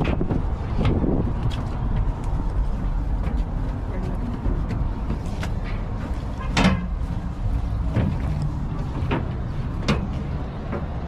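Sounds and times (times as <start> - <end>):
low rumble of city traffic: 0.0 - 11.0.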